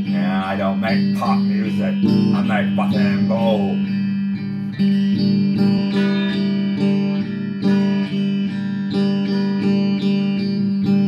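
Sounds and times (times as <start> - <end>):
electric guitar strumming chords: 0.0 - 11.0.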